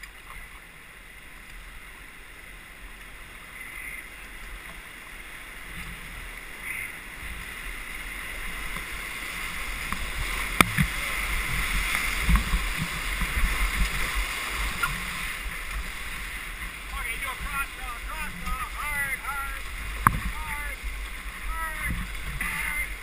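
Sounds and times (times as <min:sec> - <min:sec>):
water splashing against canoe: 0:00.0 - 0:23.0
whitewater rapids rushing: 0:00.0 - 0:23.0.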